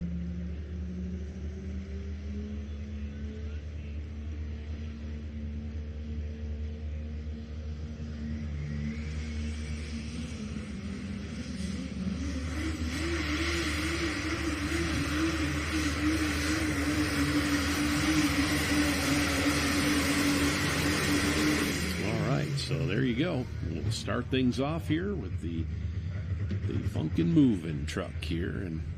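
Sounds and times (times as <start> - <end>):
vehicle engine running under load: 0.0 - 28.9.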